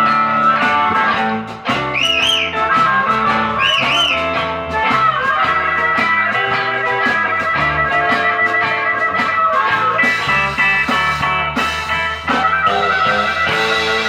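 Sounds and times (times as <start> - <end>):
bending lead guitar line: 0.0 - 14.0
blues band playing live: 0.0 - 14.0
drum beats: 0.0 - 14.0.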